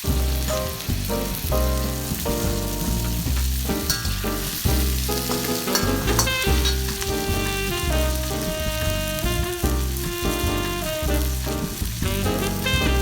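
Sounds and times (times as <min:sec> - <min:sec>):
background music with bass: 0:00.0 - 0:13.0
food sizzling in a pan: 0:00.0 - 0:13.0.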